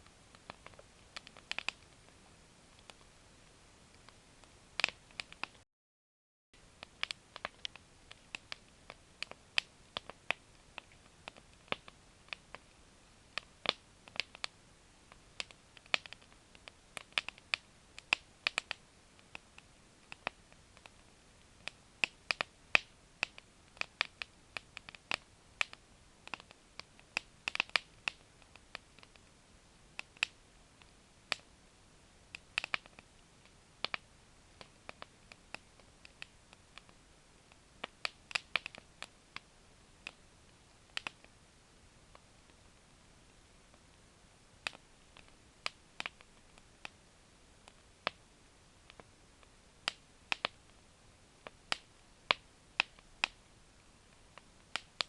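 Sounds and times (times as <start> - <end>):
campfire crackling: 0.0 - 5.6, 6.6 - 55.0
faint steady background noise: 0.0 - 5.6, 6.6 - 55.0.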